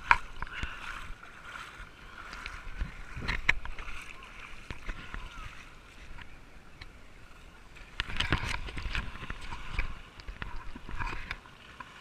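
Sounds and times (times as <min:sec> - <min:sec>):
shoreline water: 0:00.0 - 0:12.0
wind: 0:00.0 - 0:12.0.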